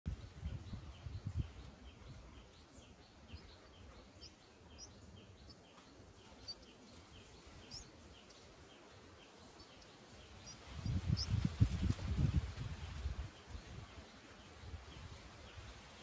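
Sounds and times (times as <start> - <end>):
faint bird chirps: 0.1 - 16.0.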